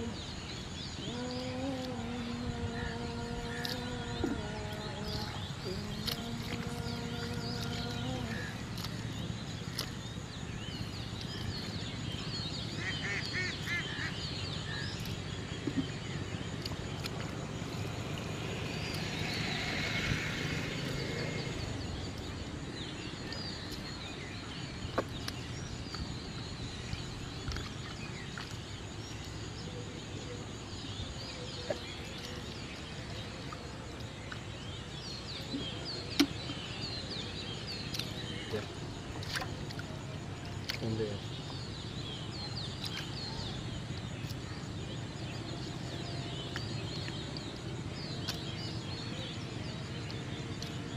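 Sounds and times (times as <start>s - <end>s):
birds chirping and calling: 0.0s - 50.9s
low outdoor background noise: 0.0s - 50.9s.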